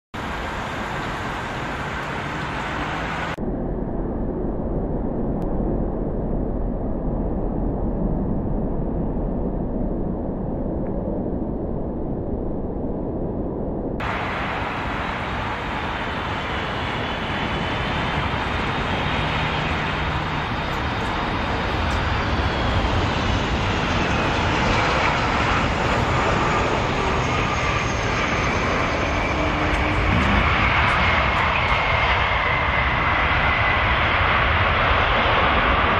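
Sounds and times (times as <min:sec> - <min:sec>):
jet engines rushing and whining: 0:00.2 - 0:35.9.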